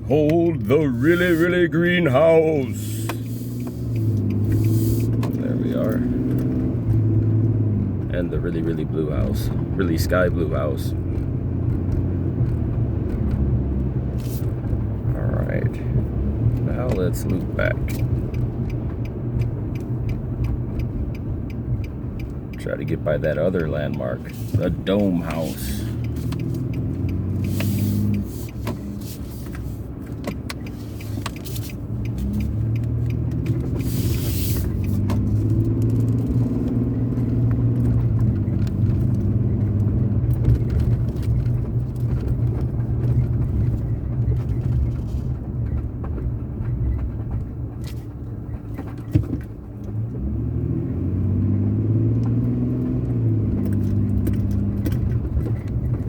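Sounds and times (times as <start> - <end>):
car engine: 0.0 - 56.0
road noise: 0.0 - 56.0.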